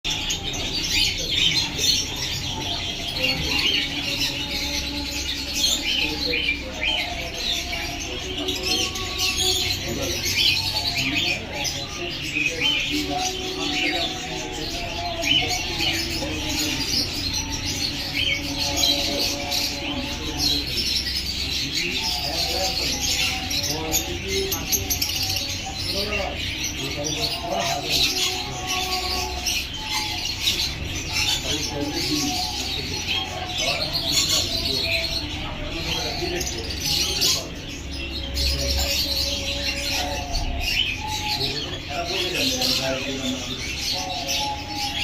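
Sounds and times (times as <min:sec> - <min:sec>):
caged birds chirping: 0:00.0 - 0:45.0.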